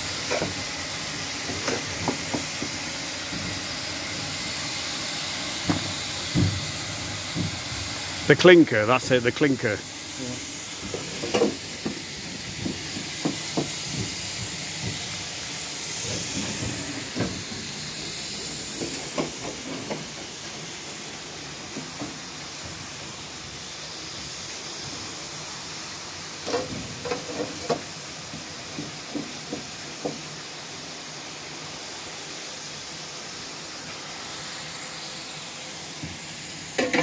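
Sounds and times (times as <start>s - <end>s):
steam locomotive hissing: 0.0s - 37.0s.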